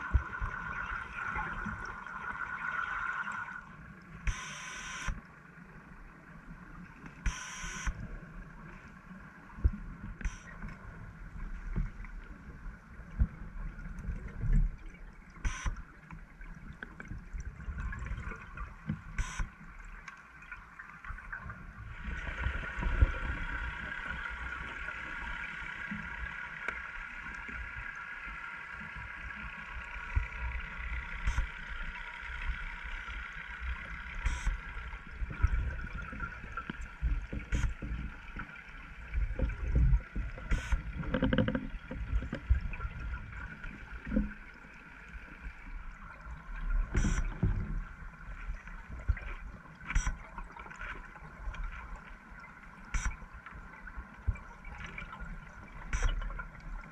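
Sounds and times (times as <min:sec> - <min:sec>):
steady droning hum: 0:00.0 - 0:56.9.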